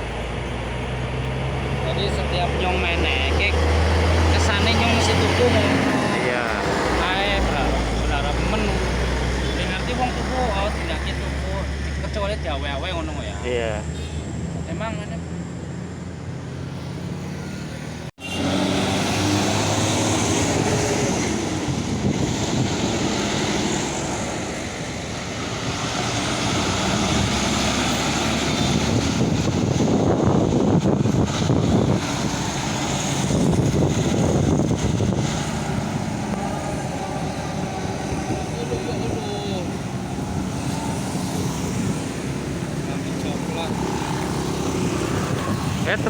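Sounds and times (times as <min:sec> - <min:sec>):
diesel truck engines: 0:00.0 - 0:46.0.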